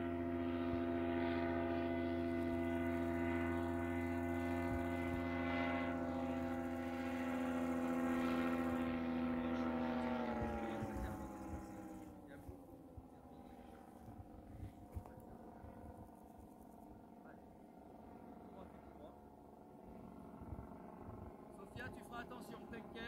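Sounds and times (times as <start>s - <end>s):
engine and propeller droning: 0.0s - 23.0s.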